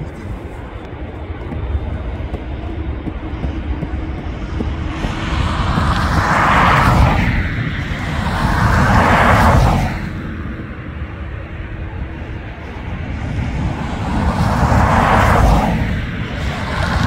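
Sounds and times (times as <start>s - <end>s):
airliner engines roaring: 0.0s - 17.0s.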